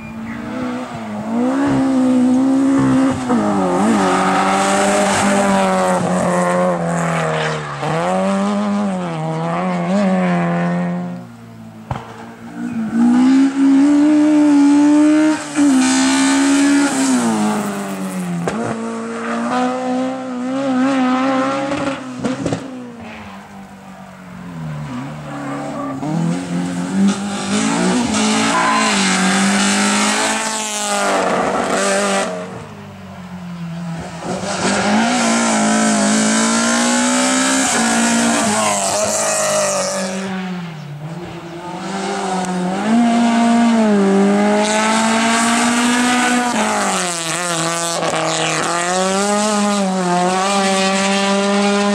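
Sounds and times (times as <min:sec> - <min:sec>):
race car engines at full throttle: 0:00.0 - 0:51.9.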